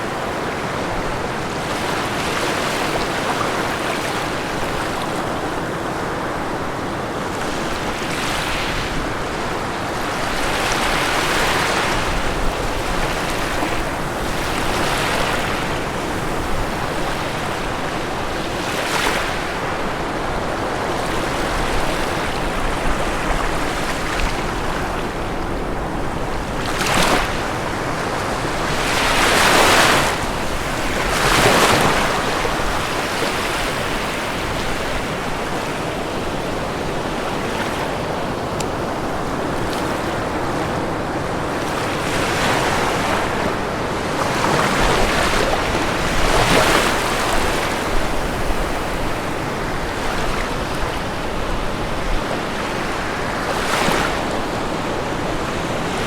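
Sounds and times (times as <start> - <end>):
ocean waves breaking on shore: 0.0 - 56.0
steady wash of surf: 0.0 - 56.0.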